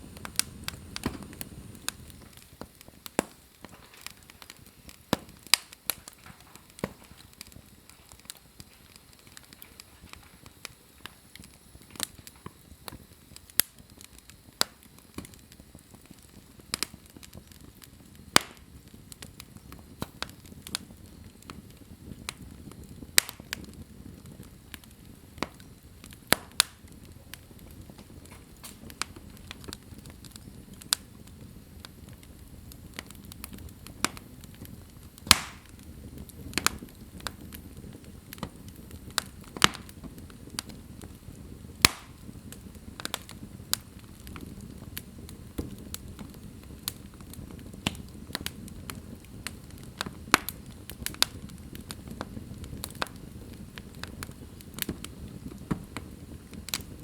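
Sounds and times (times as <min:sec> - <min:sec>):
soft hiss of flames: 0:00.0 - 0:57.0
wood fire crackling and popping: 0:00.0 - 0:57.0.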